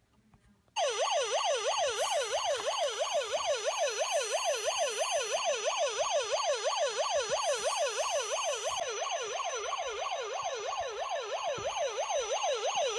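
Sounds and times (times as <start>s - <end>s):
toy siren wailing: 0.8s - 12.9s.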